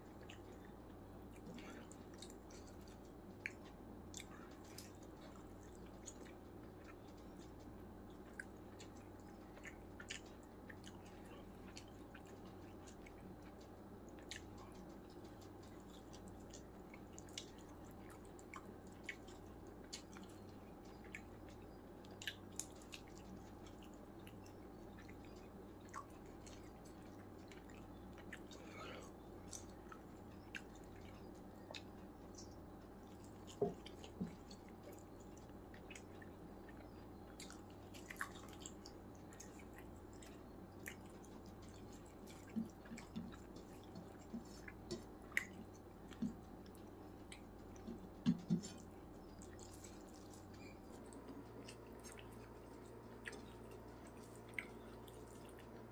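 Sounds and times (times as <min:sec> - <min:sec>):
steady low hum: 0:00.0 - 0:55.9
wet clicks of chewing: 0:00.0 - 0:55.9.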